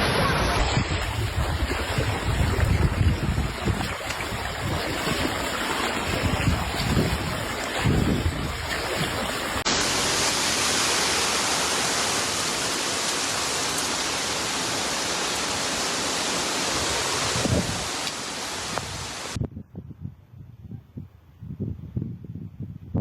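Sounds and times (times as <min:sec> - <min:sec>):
rushing water: 0:00.0 - 0:19.4.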